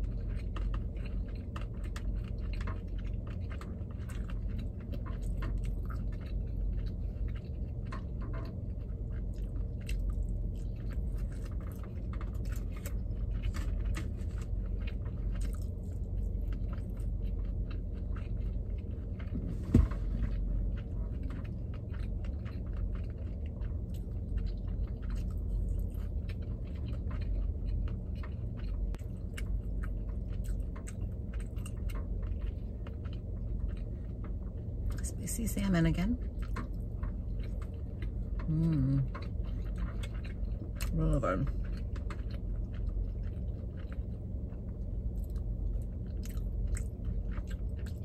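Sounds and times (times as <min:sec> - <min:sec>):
chewing and biting food: 0:00.0 - 0:48.0
food crunching: 0:00.0 - 0:48.0.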